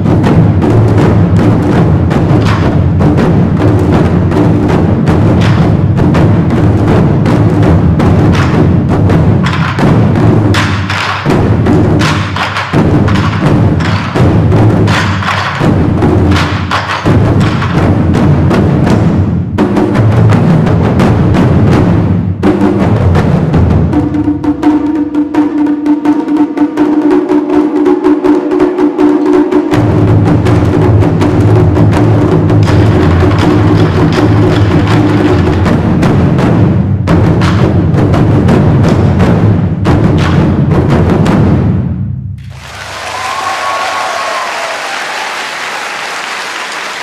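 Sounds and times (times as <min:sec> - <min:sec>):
barrel drums ensemble: 0:00.0 - 0:47.0.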